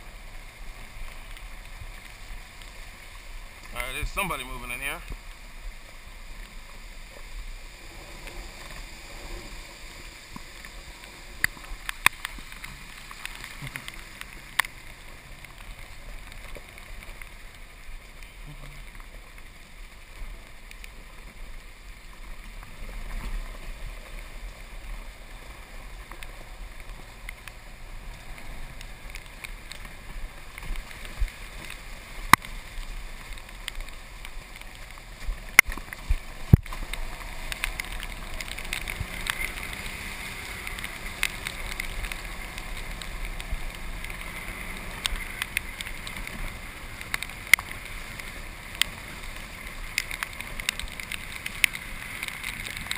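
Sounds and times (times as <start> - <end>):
golf cart driving on wet ground: 0.0 - 52.9.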